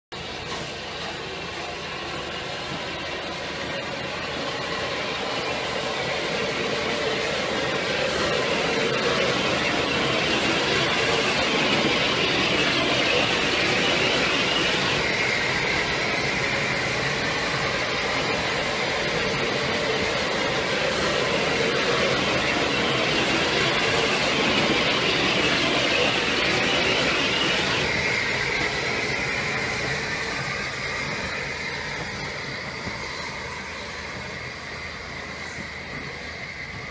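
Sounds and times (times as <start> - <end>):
train rail noise: 0.1 - 36.9
steam hissing: 0.2 - 36.9.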